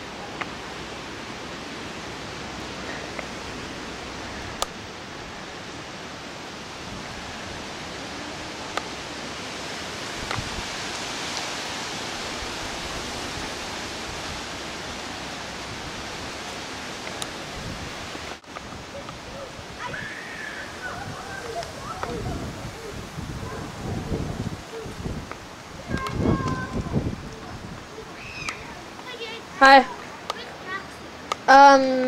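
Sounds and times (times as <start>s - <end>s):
storm wind rushing: 3.4s - 29.9s.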